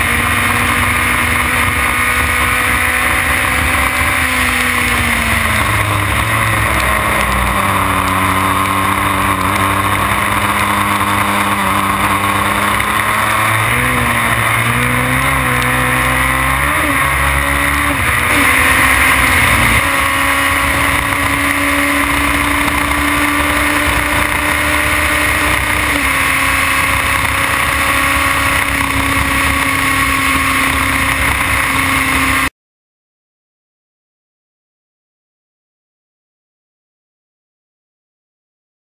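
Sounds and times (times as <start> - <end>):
racing car engine revving: 0.0 - 32.5.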